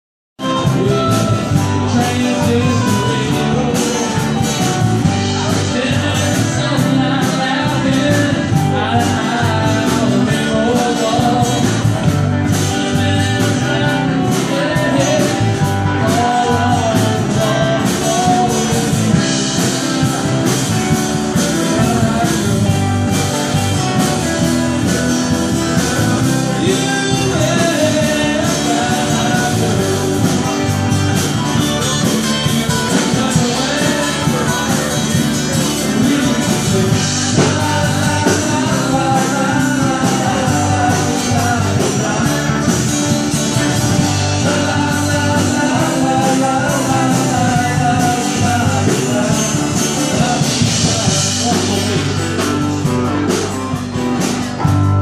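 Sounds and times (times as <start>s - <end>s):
acoustic guitar: 0.4s - 55.0s
drum kit beat: 0.4s - 55.0s
electric bass guitar: 0.4s - 55.0s
person singing: 0.4s - 55.0s.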